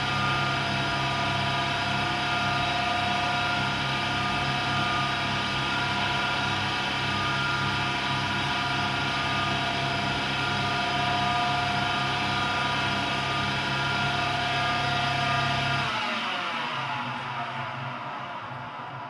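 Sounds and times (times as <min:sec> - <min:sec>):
washing machine motor hum and whine: 0:00.0 - 0:17.9.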